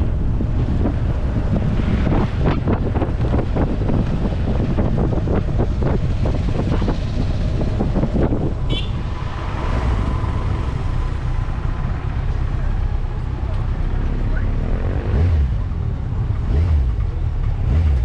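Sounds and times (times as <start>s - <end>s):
wind buffeting microphone: 0.0s - 16.6s
low vehicle rumble: 0.0s - 18.0s.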